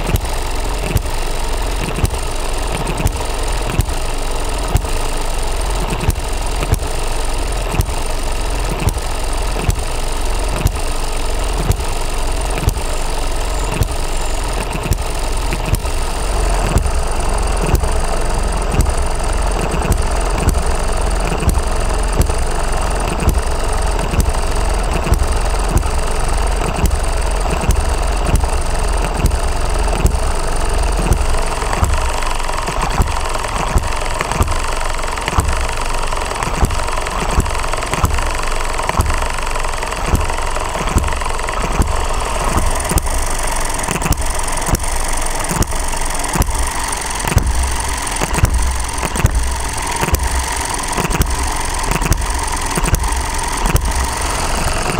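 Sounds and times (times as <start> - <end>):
engine firing pop: 0.0 - 54.9
engine knocking: 0.0 - 54.9.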